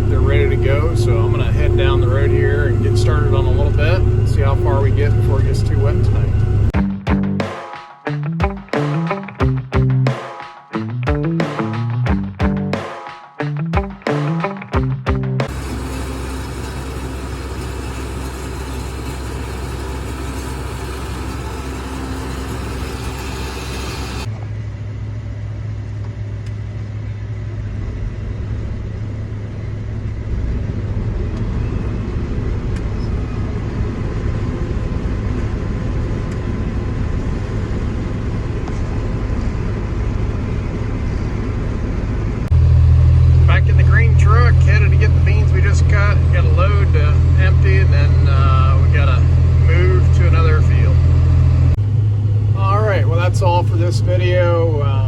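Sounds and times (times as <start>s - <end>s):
deep engine drone: 0.0s - 7.5s, 8.2s - 10.1s, 10.8s - 12.8s, 13.6s - 55.0s
vehicle engine running: 0.0s - 7.5s, 8.2s - 10.2s, 10.8s - 12.8s, 13.5s - 55.0s.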